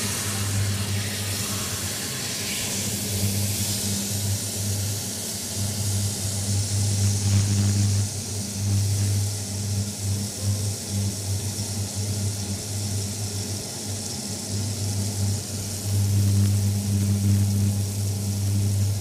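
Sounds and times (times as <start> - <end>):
low cooktop hum: 0.0 - 19.0
meat sizzling in oil: 0.0 - 19.0.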